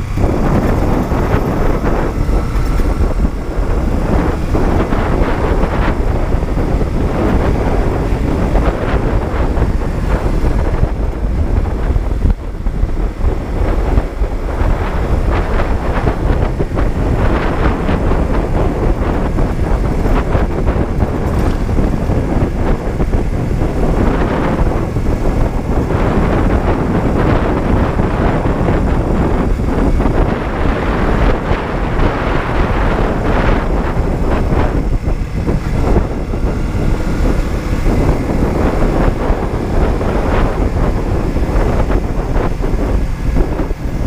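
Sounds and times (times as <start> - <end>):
motorcycle engine running: 0.0 - 44.0
wind buffeting microphone: 0.0 - 44.0.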